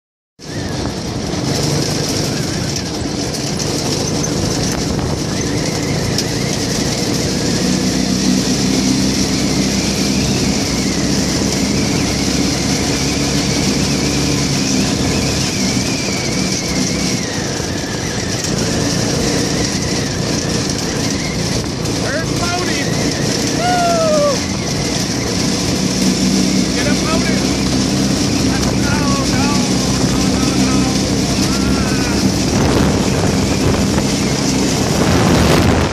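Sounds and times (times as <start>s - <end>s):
go-kart engine running: 0.4s - 35.9s
road noise: 0.4s - 35.9s.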